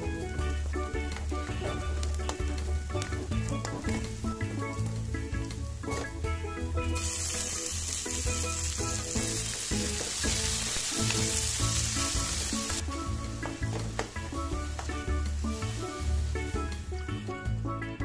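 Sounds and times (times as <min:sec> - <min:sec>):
food sizzling in hot oil: 0:00.0 - 0:17.3.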